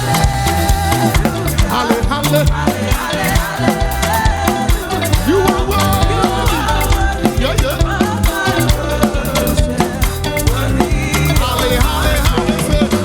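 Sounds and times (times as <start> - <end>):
church praise music with heavy bass: 0.0 - 13.0.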